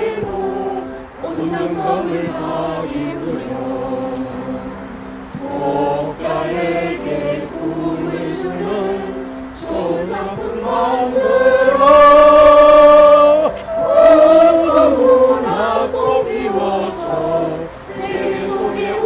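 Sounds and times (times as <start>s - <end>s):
group singing in unison: 0.0s - 19.0s.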